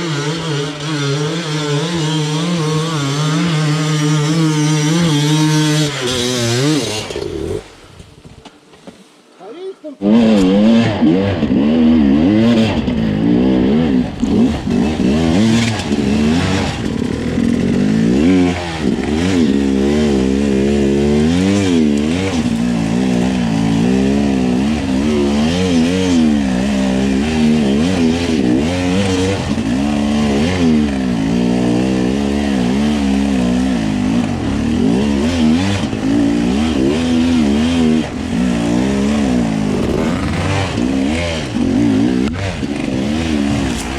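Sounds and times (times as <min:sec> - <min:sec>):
dirt bike engine revving: 0:00.0 - 0:08.2, 0:10.0 - 0:43.9.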